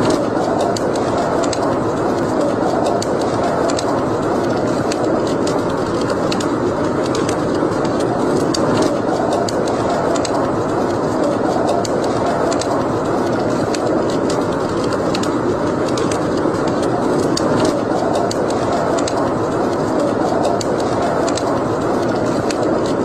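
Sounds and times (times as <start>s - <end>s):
steady rushing noise: 0.0s - 23.0s
wood fire crackling and popping: 0.0s - 23.0s.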